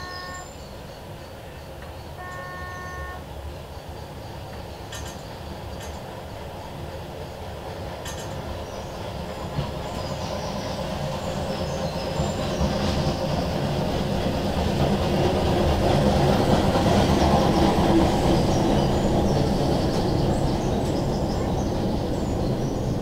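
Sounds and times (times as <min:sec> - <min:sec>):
small diesel train passing: 0:00.0 - 0:23.0.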